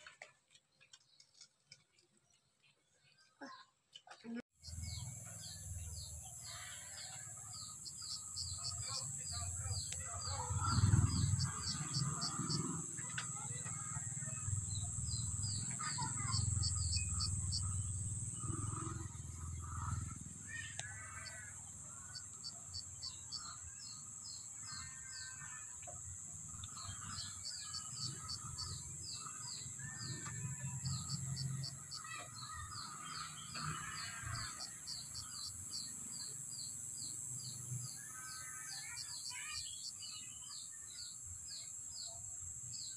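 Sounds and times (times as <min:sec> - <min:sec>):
birds chirping: 0:00.7 - 0:42.9.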